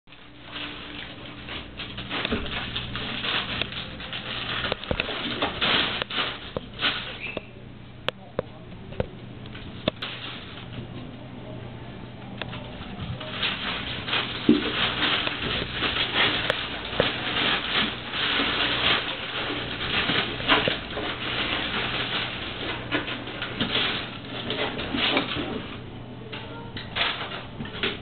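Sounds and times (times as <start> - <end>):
plastic bag crinkling: 0.1 - 7.6, 9.4 - 11.6, 12.3 - 28.0.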